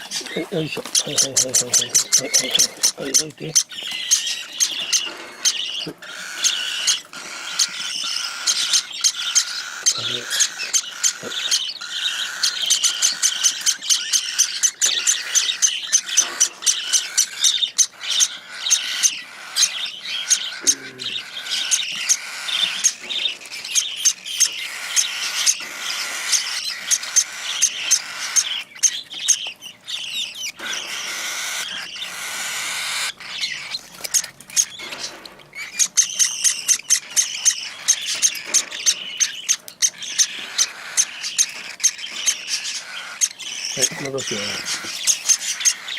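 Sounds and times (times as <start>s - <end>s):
cockatiel chicks begging calls: 0.0s - 45.9s.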